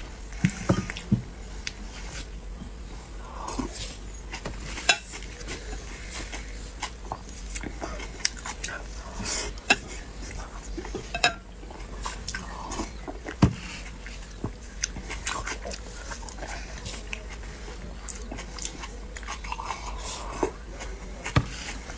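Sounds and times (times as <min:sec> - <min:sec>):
person chewing food: 0:00.0 - 0:21.9.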